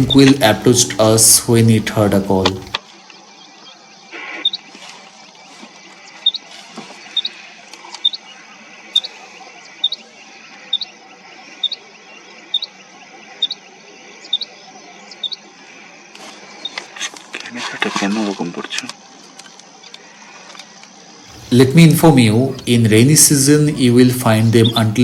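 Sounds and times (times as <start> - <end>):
quail calling: 0.0 - 19.2, 19.9 - 25.0.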